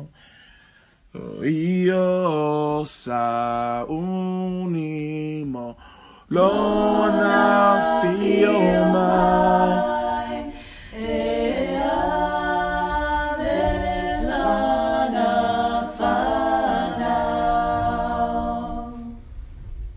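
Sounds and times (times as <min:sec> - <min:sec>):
voices singing in harmony: 0:01.2 - 0:19.5.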